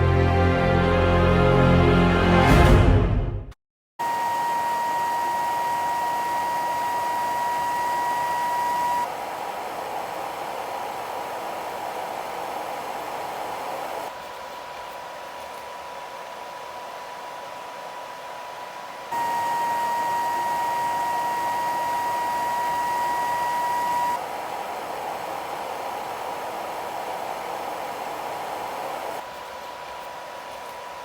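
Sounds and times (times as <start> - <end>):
electric fan whirring: 4.0 - 31.0.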